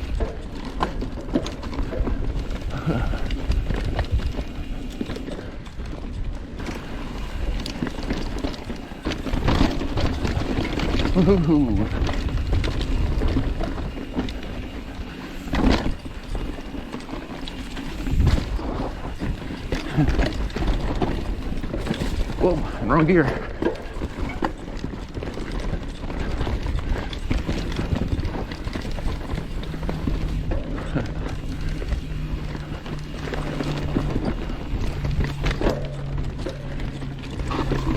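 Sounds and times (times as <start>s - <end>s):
bike rattling over bumps: 0.0s - 37.9s
bike tyres on dirt trail: 0.0s - 37.9s.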